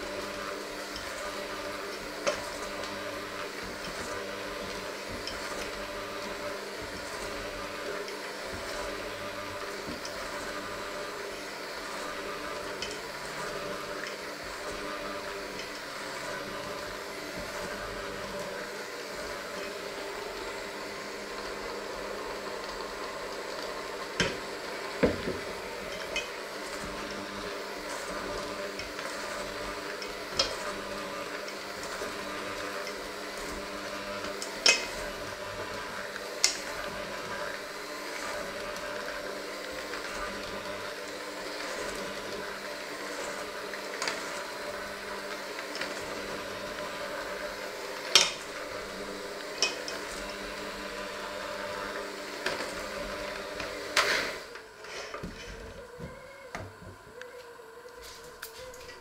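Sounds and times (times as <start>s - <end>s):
electric hand mixer running: 0.0s - 59.0s.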